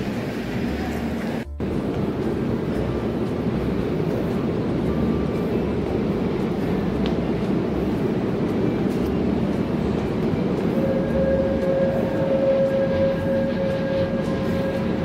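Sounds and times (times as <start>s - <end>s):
thin steady whine: 0.0s - 15.0s
train rumbling: 0.0s - 15.0s.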